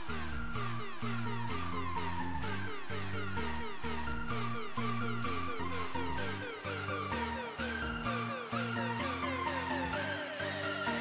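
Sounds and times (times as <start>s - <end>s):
electronic music with bass beat: 0.0s - 11.0s.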